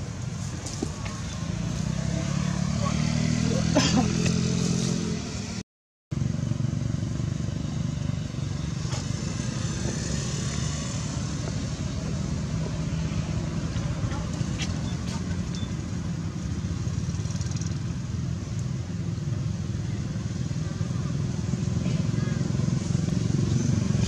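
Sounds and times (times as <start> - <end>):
vehicle engine rumbling: 0.0 - 5.6, 6.2 - 24.0.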